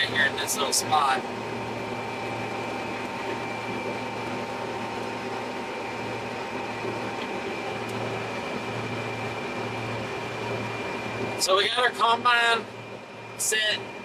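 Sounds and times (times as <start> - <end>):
combine harvester drone: 0.0 - 14.0
steady whining tones: 0.0 - 14.0.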